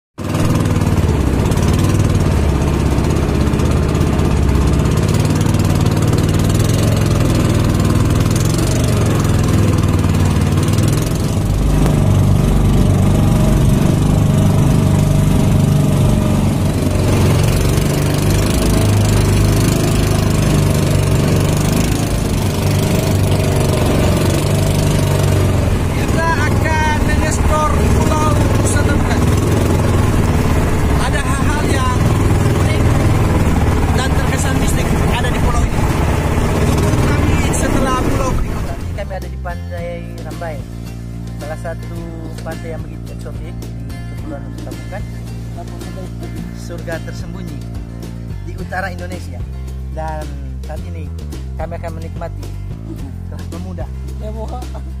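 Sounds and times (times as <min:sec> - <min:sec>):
motorboat engine running: 0:00.2 - 0:55.0.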